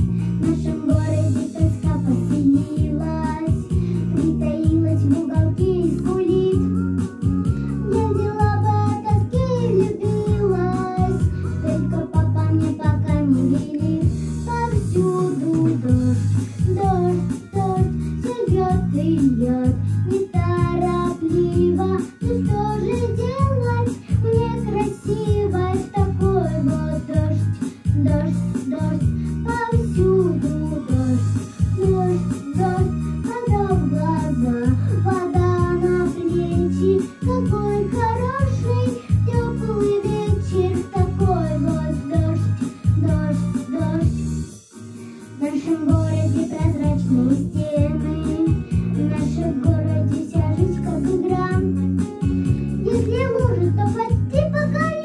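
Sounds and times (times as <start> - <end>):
girl singing into a microphone: 0.0 - 44.3, 45.3 - 55.0
instrumental backing track with beat: 0.0 - 55.0.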